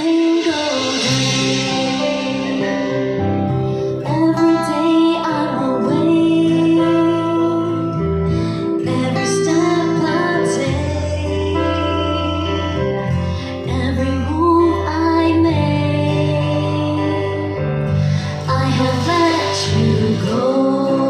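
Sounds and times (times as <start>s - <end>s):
instrumental accompaniment with bass: 0.0s - 21.0s
woman singing: 0.0s - 21.0s.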